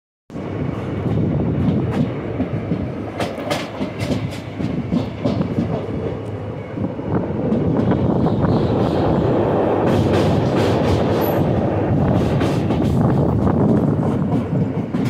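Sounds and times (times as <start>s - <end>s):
rumble of wheels on rails: 0.3s - 15.0s
sharp rail clicks: 1.1s - 6.4s, 7.4s - 15.0s.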